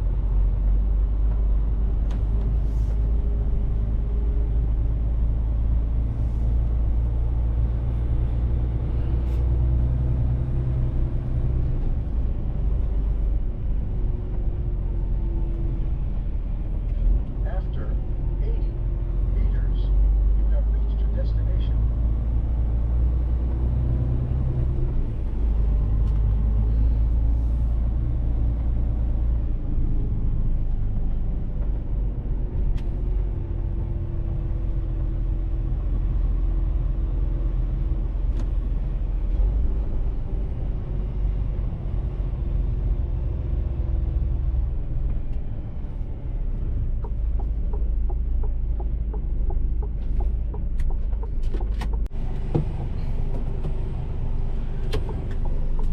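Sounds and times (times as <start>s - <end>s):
truck engine rumbling: 0.0s - 55.9s.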